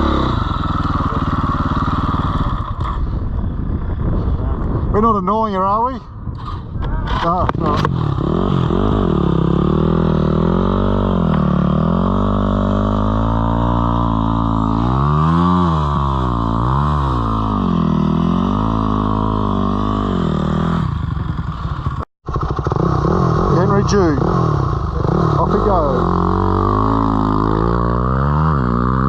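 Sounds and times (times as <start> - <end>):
dirt bike engine revving: 0.0 - 3.2, 6.4 - 29.0.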